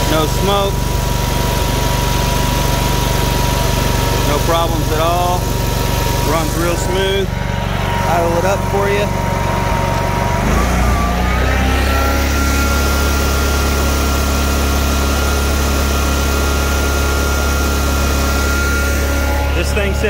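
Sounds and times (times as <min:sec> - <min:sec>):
lawn mower engine revving up: 0:00.0 - 0:20.0.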